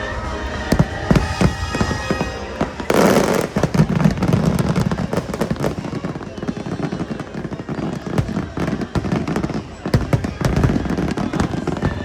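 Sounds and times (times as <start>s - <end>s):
fireworks bangs: 0.0s - 12.0s
fireworks crackling: 0.0s - 12.0s
music: 0.0s - 12.0s.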